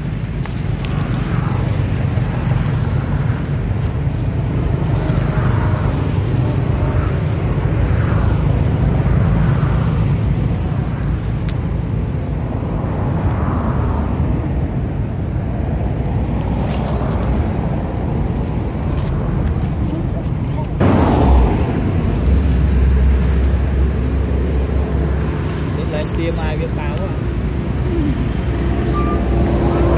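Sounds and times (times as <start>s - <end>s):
steady low rumble: 0.0s - 29.9s.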